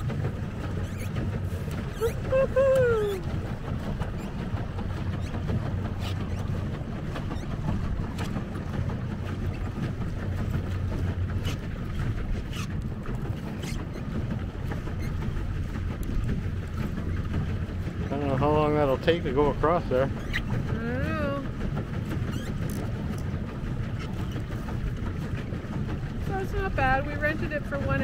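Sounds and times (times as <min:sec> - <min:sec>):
water lapping against boat hull: 0:00.0 - 0:28.0
wind buffeting microphone: 0:00.0 - 0:28.0.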